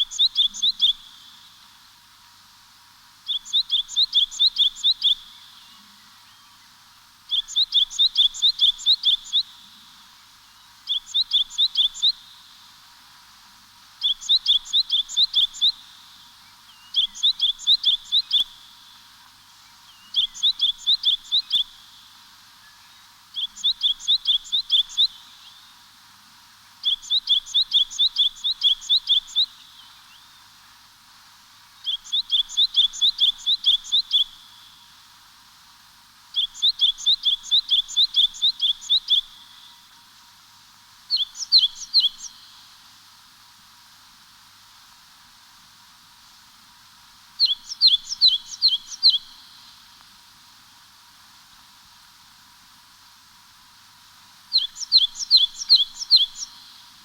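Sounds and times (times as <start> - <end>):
faint steady hiss: 0.0 - 57.0
songbird singing: 0.0 - 57.0.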